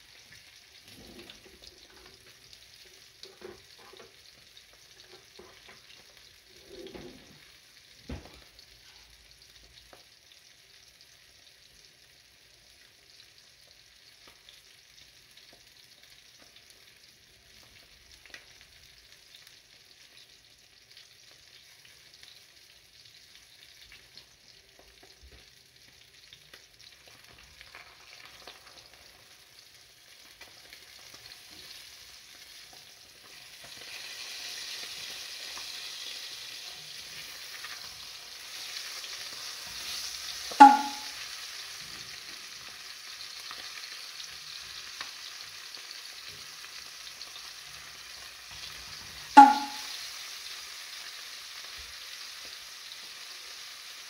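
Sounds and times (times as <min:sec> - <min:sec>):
fish sizzling in oil: 0:00.0 - 0:54.0.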